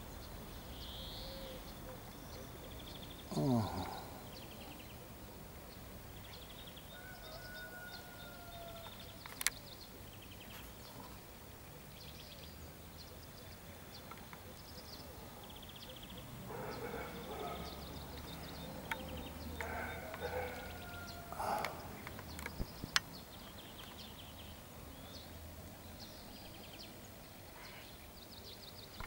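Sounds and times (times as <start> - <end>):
small birds trilling: 0.0 - 29.0.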